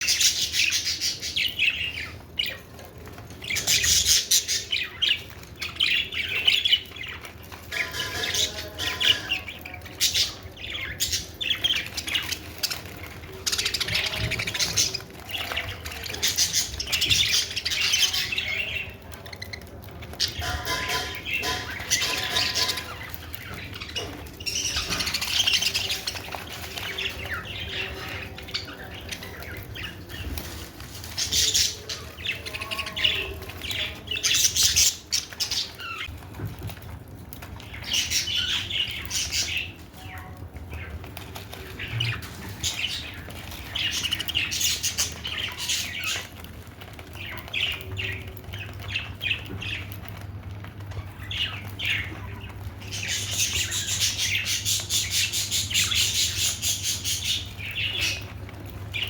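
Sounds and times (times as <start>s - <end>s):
budgerigars chattering and chirping: 0.0s - 36.1s, 40.7s - 59.0s.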